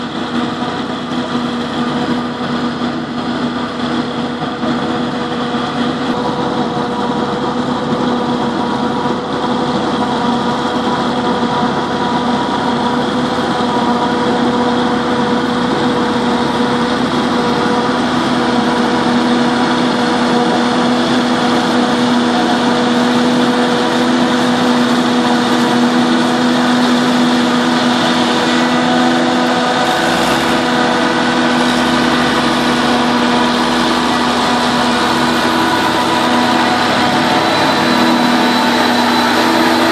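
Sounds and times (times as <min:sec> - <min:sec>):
forage harvester drone: 0:00.0 - 0:39.9.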